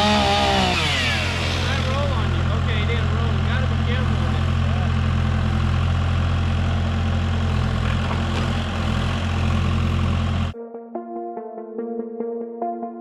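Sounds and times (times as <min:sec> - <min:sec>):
machine engine humming steadily: 0:00.0 - 0:10.5.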